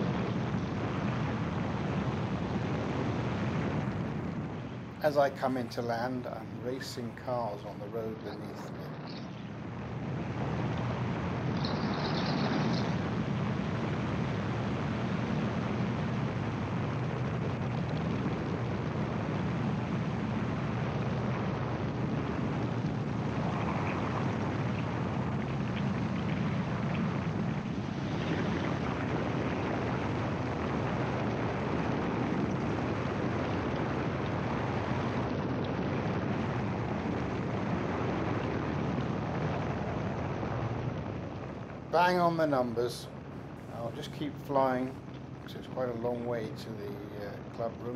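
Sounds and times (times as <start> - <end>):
aircraft engine and propeller: 0.0 - 47.9.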